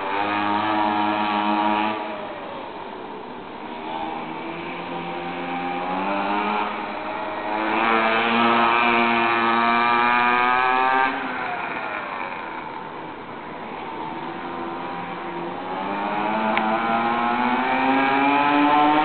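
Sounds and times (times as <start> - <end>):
two-stroke engine revving: 0.0 - 2.8, 3.5 - 19.0.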